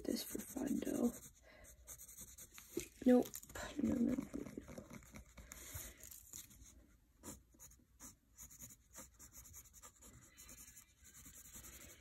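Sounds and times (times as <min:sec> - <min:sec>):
pencil scratching on paper: 0:00.0 - 0:03.2, 0:03.8 - 0:12.0.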